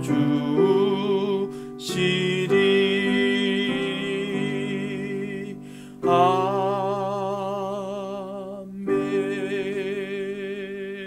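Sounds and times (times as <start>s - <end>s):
hymn singing with instruments: 0.0s - 11.0s.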